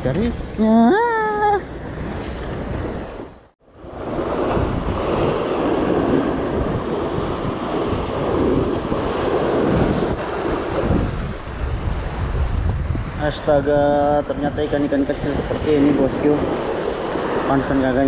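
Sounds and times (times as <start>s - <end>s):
wind buffeting microphone: 1.2s - 18.0s
waves breaking against seawall: 2.0s - 18.0s.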